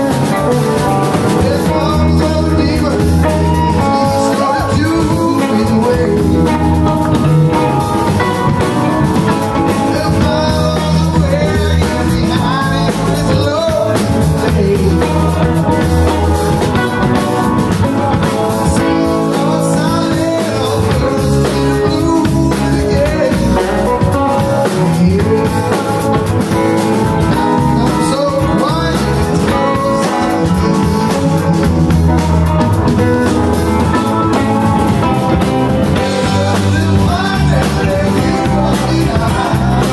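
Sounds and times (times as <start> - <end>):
drum kit: 0.0 - 39.9
electric guitars: 0.0 - 39.9
keyboard: 0.0 - 39.9.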